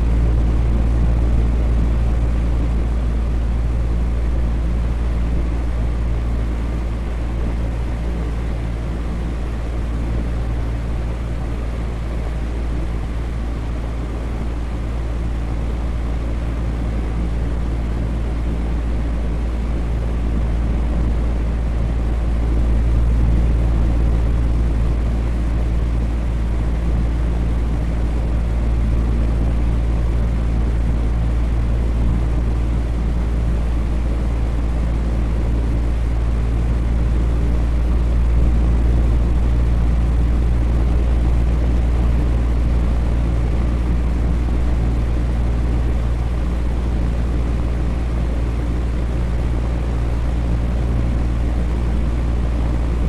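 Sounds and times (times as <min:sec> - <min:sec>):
electric fan running: 0:00.0 - 0:53.0.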